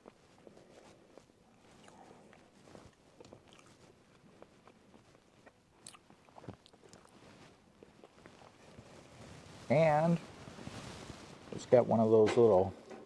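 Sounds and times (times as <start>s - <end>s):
chewing and crunching fried food: 0.0s - 11.5s.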